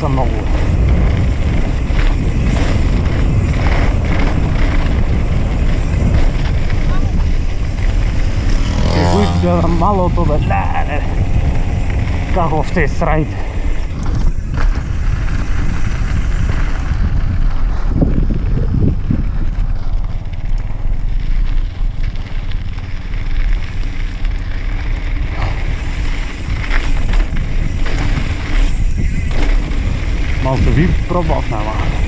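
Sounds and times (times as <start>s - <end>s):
bike tyres on dirt trail: 0.0s - 32.0s
wind buffeting microphone: 0.0s - 32.0s.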